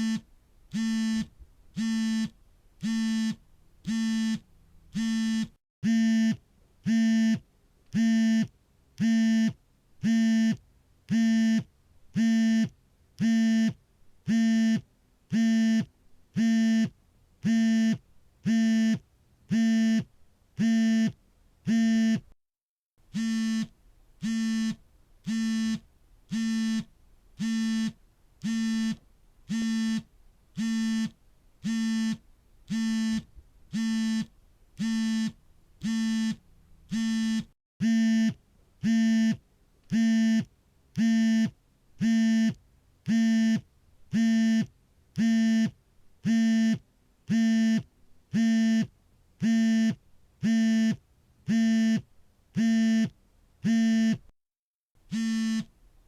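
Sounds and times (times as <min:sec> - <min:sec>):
smartphone vibrating: 0:00.0 - 0:07.4, 0:08.0 - 0:22.3, 0:23.1 - 0:54.2, 0:55.1 - 0:55.7.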